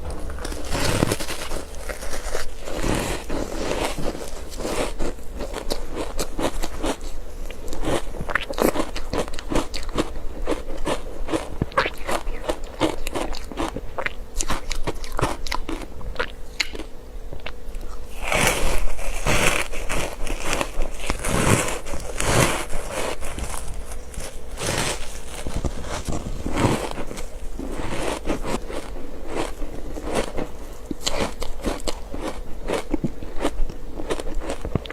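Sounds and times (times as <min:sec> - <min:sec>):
crunching and chewing ice: 0:00.0 - 0:34.9.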